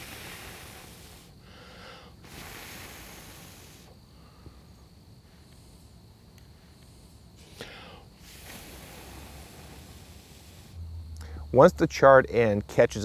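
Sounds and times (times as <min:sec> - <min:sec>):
breathy blows of air: 0:00.0 - 0:05.9, 0:06.5 - 0:11.6.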